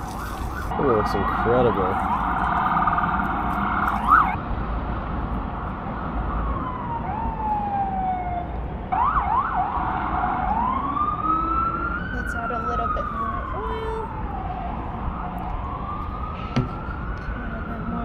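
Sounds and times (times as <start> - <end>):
emergency siren wailing: 0.0 - 4.4, 5.9 - 18.0
low rumble of traffic: 0.0 - 18.0.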